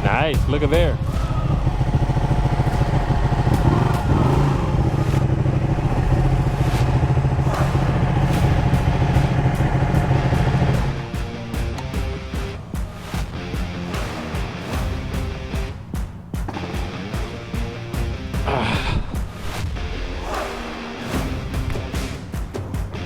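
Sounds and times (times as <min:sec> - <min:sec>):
motorcycle engine running: 0:00.0 - 0:18.5.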